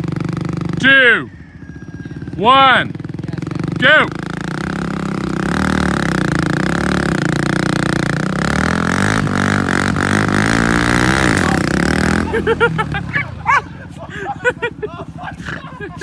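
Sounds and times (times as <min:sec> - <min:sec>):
atv engines revving hard: 0:00.0 - 0:16.0.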